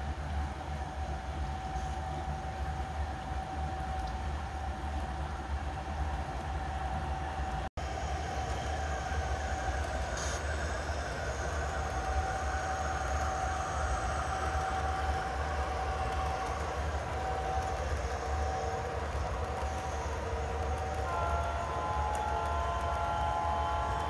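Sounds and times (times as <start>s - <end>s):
model trains rumbling: 0.0s - 24.0s
steady hum: 0.1s - 24.0s.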